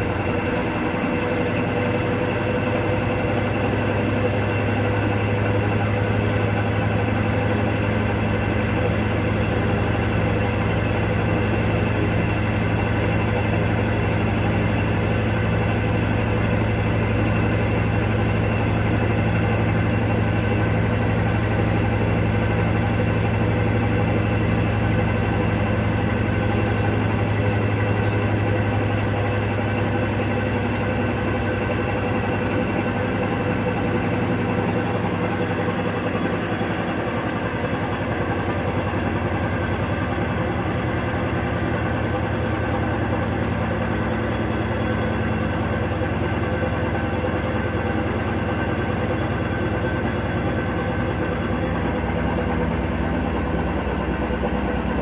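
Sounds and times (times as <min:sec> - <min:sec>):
washing machine hum and rumble: 0:00.0 - 0:55.0.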